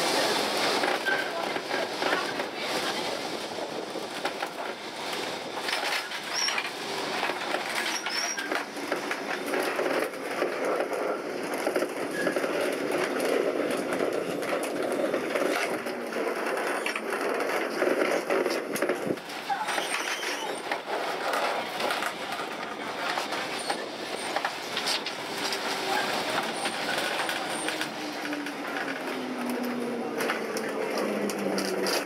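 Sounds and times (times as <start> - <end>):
tram rattling on rails: 0.0 - 32.0.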